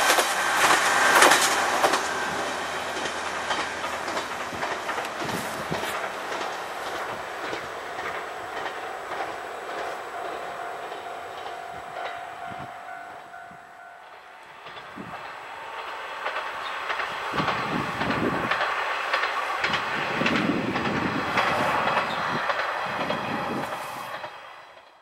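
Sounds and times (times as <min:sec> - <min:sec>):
steady whine: 0:00.0 - 0:24.1
train wheels clicking over rail joints: 0:00.0 - 0:25.0.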